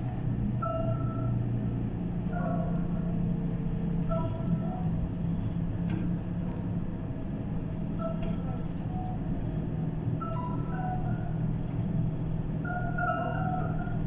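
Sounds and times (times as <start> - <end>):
coach engine rumble: 0.0 - 14.0.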